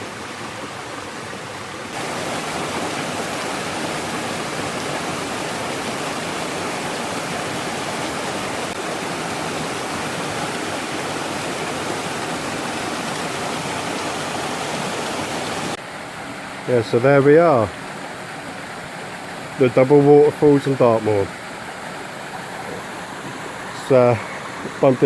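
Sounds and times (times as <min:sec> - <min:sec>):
rush of falling water: 0:00.0 - 0:25.0.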